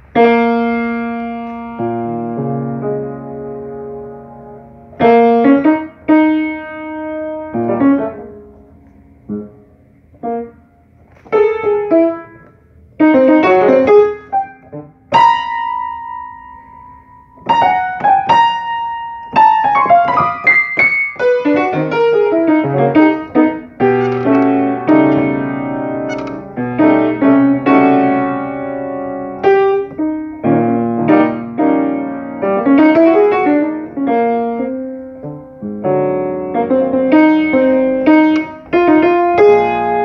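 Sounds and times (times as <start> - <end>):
solo piano: 0.0 - 40.0.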